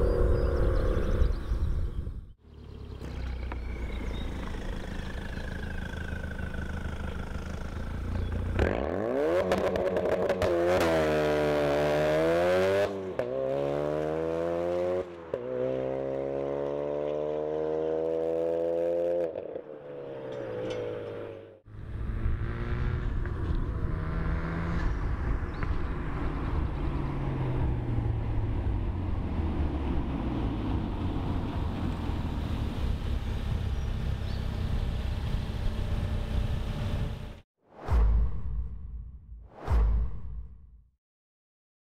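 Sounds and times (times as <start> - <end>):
road noise: 0.0 - 37.4.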